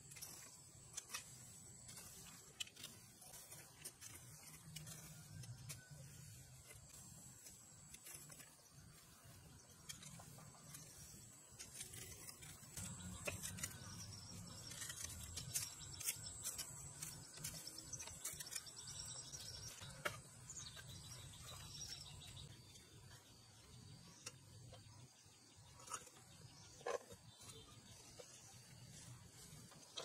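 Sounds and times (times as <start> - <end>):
rake scraping through grass: 0.0 - 30.0.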